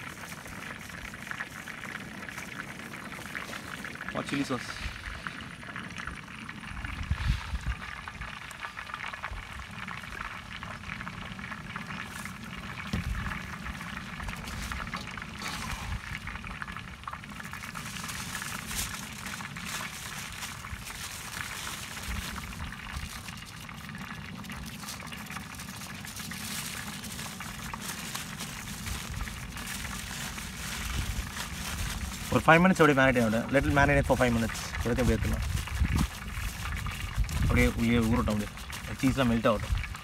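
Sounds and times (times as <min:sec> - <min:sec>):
aluminium foil crinkling: 0:00.0 - 0:04.4, 0:07.9 - 0:40.0.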